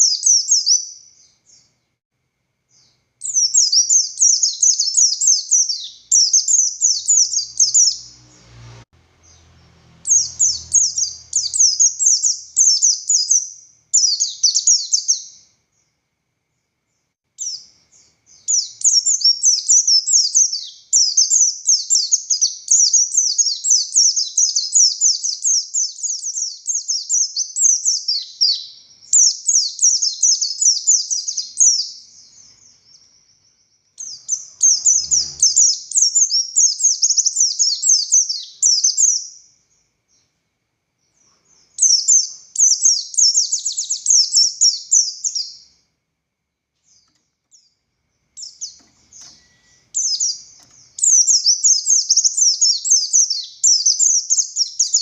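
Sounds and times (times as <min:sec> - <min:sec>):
bird singing high chattering phrases: 0:00.0 - 0:01.8, 0:02.7 - 0:08.6, 0:09.2 - 0:15.6, 0:17.4 - 0:39.6, 0:41.2 - 0:45.8, 0:48.4 - 0:55.0.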